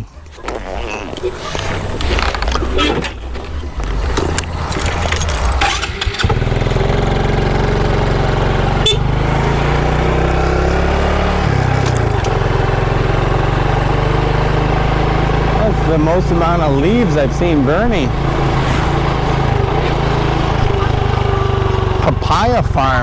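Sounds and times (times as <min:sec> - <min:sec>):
motorcycle engine running: 0:01.4 - 0:23.0.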